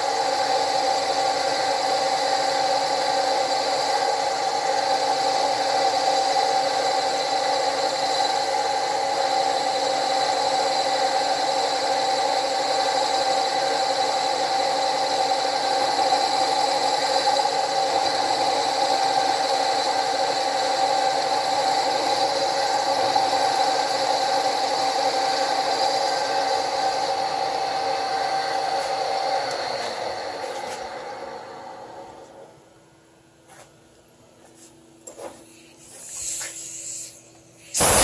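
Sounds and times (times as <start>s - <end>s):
milling machine whine: 0.0s - 32.8s.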